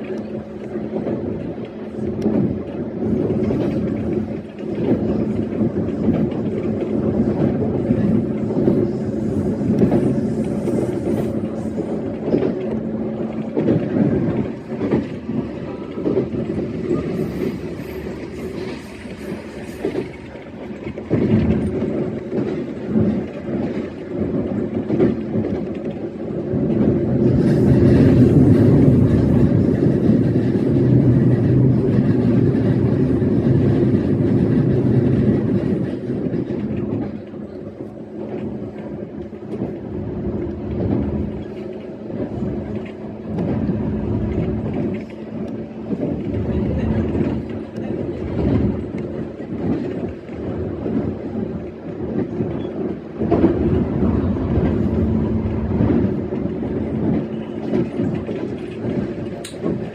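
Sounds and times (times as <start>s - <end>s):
electric train running hum: 0.0s - 59.9s
rail clacks: 0.0s - 59.9s.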